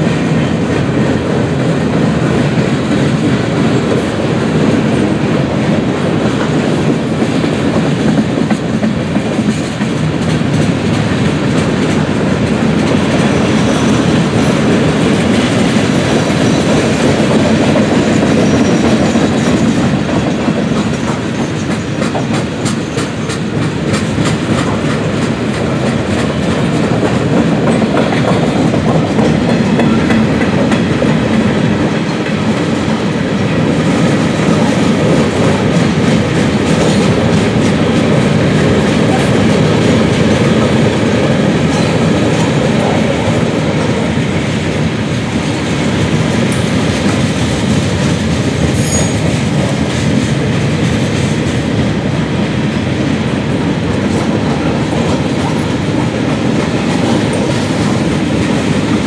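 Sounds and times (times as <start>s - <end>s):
clickety-clack over rail joints: 0.0s - 59.0s
freight train wheels rumbling: 0.0s - 59.0s.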